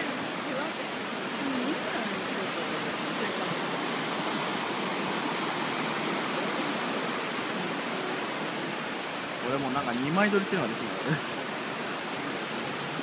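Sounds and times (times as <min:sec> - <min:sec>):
river water rushing over rock: 0:00.0 - 0:13.0.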